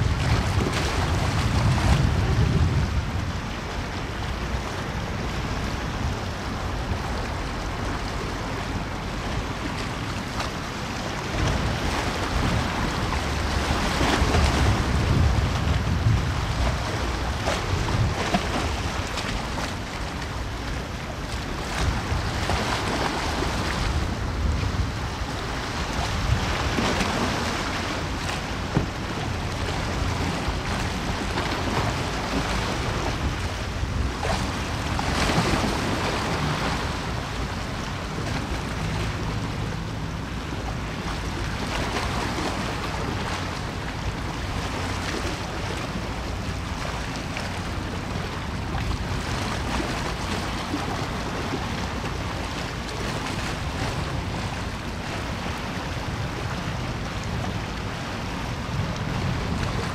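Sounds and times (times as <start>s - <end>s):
open water wash: 0.0s - 59.9s
wind on microphone: 0.0s - 59.9s.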